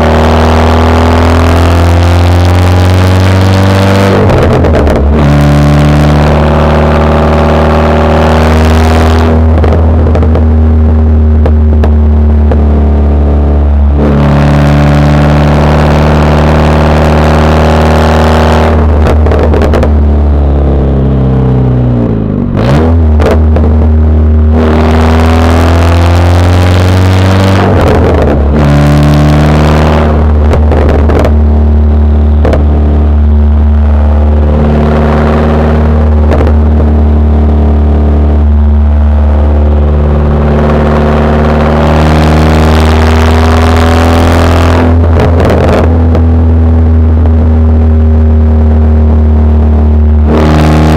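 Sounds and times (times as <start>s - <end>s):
car exhaust while driving: 0.0s - 50.9s.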